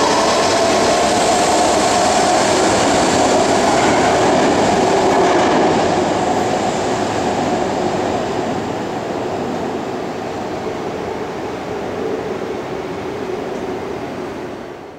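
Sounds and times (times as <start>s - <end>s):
train rumbling: 0.0s - 14.9s.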